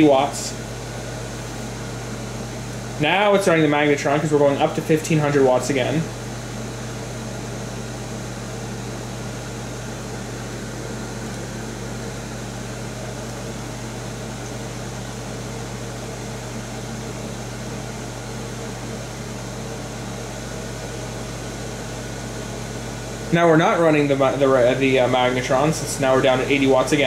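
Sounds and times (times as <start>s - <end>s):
fan noise: 0.0s - 27.0s
microwave oven humming: 0.0s - 27.0s.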